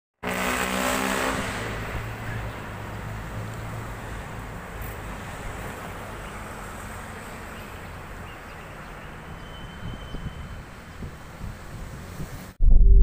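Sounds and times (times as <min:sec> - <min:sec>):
distant city traffic hum: 0:00.2 - 0:12.6.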